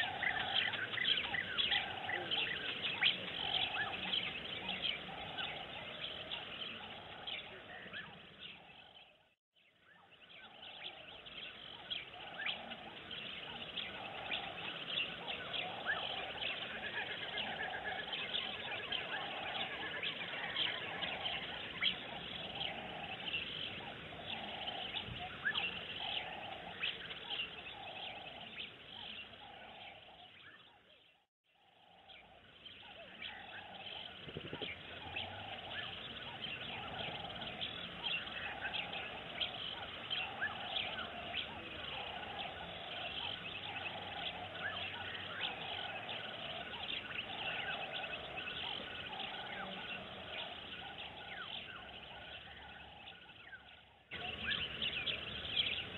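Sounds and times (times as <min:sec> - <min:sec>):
low repeating bird call: 0:00.0 - 0:09.4, 0:10.0 - 0:55.9
wild birds chirping: 0:00.0 - 0:55.9.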